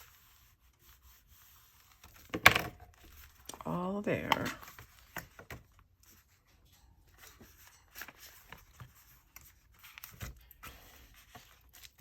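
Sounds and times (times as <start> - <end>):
paper rustling: 0.0 - 3.6, 4.2 - 12.0.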